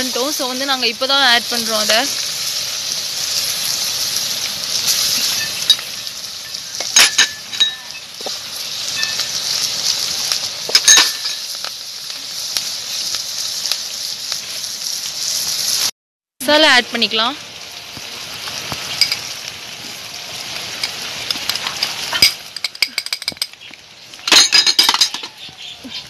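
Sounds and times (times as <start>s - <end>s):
masala sizzling in a pan: 0.0s - 26.0s.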